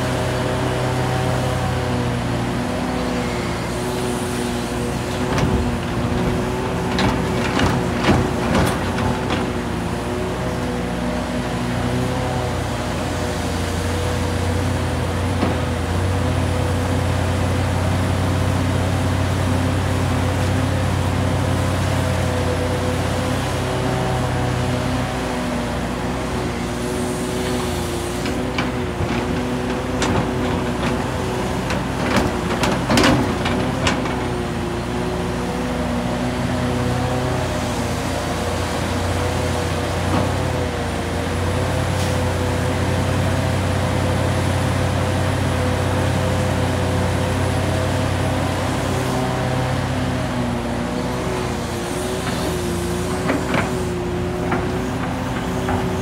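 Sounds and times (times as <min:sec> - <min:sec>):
excavator diesel engine under load: 0:00.0 - 0:56.0.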